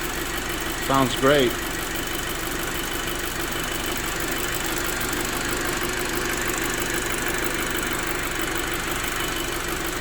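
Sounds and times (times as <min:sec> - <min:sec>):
car engine idling: 0:00.0 - 0:10.0
fast even engine ticking: 0:00.0 - 0:10.0.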